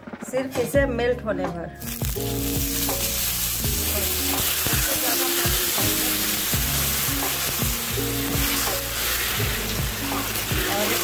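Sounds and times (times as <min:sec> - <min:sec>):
sugar sizzling in metal pan: 0:01.8 - 0:11.0.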